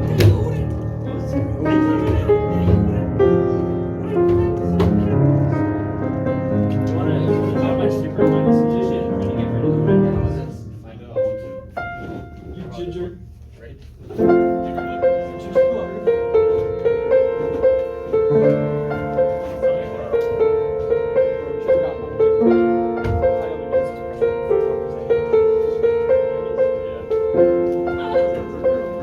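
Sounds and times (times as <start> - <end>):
piano music with repeated note: 0.0 - 13.2, 14.2 - 29.0.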